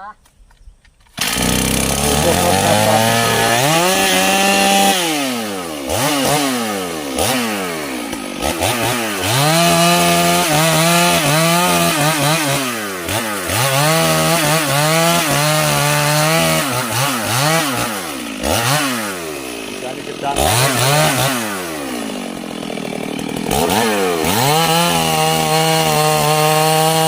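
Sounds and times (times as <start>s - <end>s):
chainsaw revving and cutting wood: 1.1s - 27.0s.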